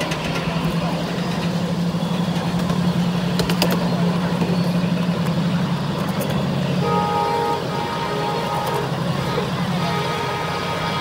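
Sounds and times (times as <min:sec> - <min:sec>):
miniature train drone: 0:00.0 - 0:11.0.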